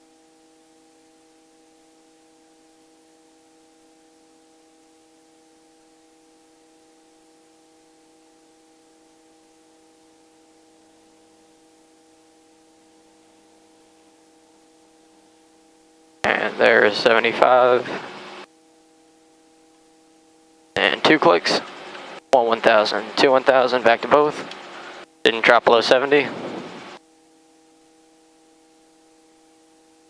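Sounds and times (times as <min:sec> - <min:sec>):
faint steady hiss: 0:00.0 - 0:30.0
steady tonal hum: 0:00.0 - 0:30.0.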